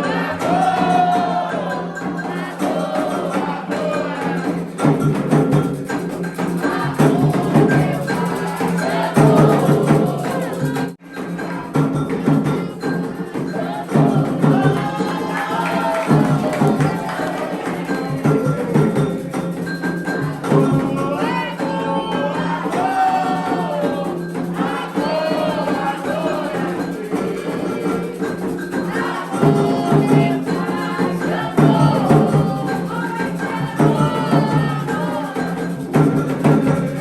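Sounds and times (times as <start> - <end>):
drums: 0.0 - 37.0
group singing: 0.0 - 37.0
wood block percussion: 0.0 - 37.0.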